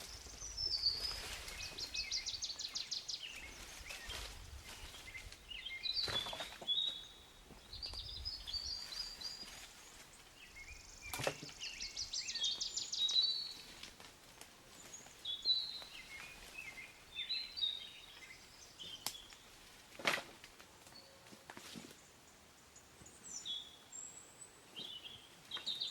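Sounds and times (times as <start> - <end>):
songbirds singing: 0.0 - 14.0, 14.6 - 19.8, 22.0 - 25.9.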